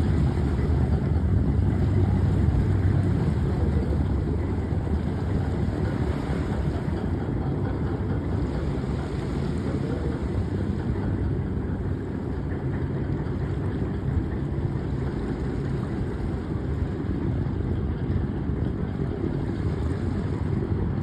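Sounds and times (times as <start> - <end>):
ferry engines rumbling: 0.0 - 21.0.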